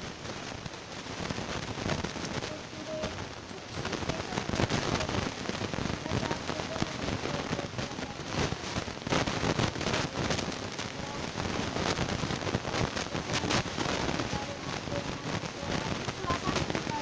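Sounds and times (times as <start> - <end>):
plastic cups crackling and clicking: 0.6 - 17.0.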